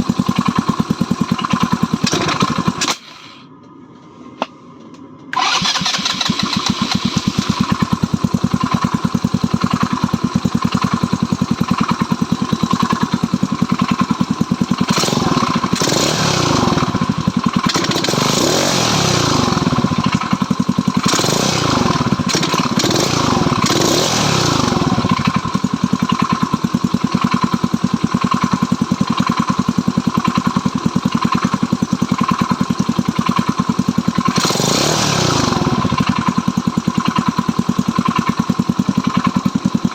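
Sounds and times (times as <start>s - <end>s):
motorcycle engine idling and revving: 0.0s - 3.2s, 5.3s - 39.9s.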